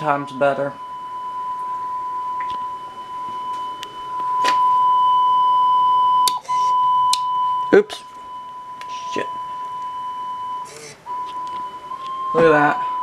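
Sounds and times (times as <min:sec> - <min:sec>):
steady test tone: 0:00.0 - 0:13.0.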